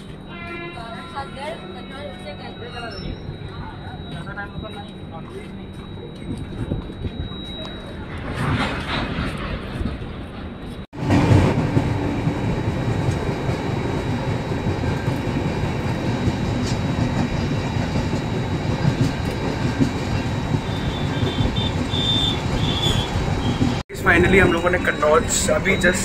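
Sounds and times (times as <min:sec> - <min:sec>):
train wheels rumbling on track: 0:03.1 - 0:26.0.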